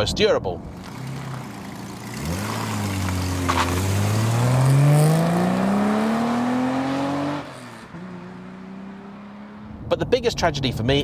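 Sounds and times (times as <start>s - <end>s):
car engine accelerating: 0.7s - 9.9s.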